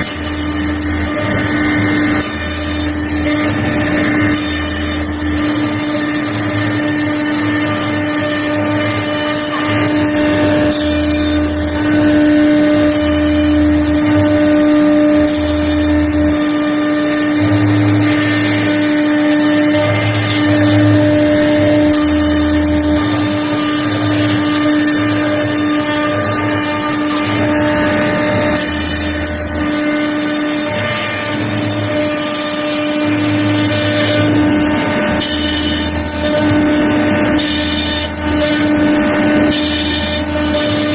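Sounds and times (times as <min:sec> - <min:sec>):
router bit cutting wood: 0:00.0 - 0:40.9
router spindle whining: 0:00.0 - 0:40.9.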